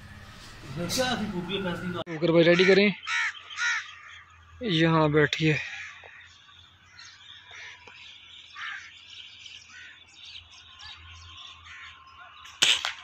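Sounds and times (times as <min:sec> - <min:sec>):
small birds chirping: 0:00.8 - 0:13.0.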